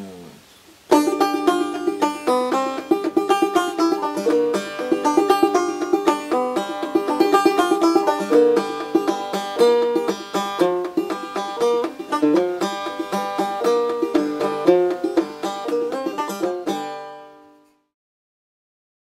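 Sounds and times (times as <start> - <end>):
banjo plucked notes: 0.9 - 17.9.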